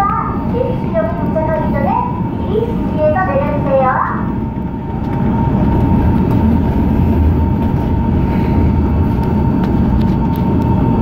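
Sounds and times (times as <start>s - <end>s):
high whine: 0.0s - 11.0s
train wheels rumbling on rails: 0.0s - 11.0s.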